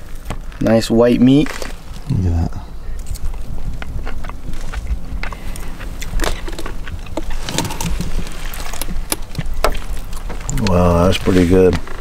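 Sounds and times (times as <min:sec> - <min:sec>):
low motor hum: 0:01.7 - 0:12.0.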